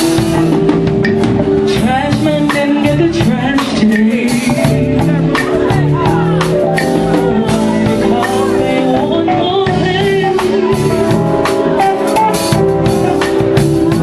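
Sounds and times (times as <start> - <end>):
drum kit beat: 0.0 - 14.0
live soul band playing: 0.0 - 14.0
person singing: 1.6 - 14.0.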